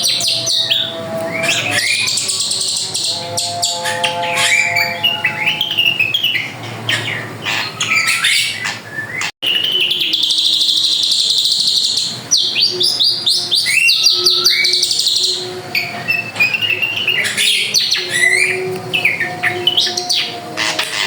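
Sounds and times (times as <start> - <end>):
bird chirps and whistles: 0.0 - 21.0
buzzy bird trill: 0.0 - 21.0.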